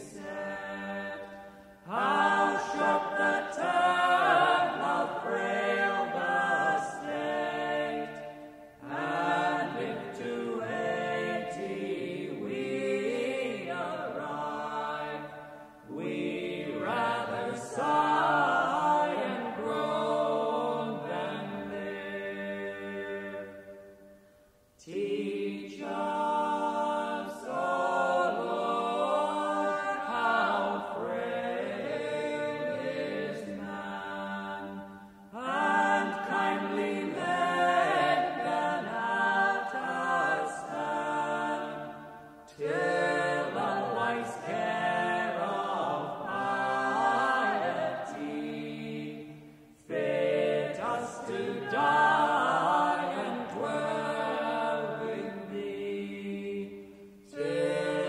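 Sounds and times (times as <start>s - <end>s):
vocal quartet singing a hymn: 0.0s - 58.0s.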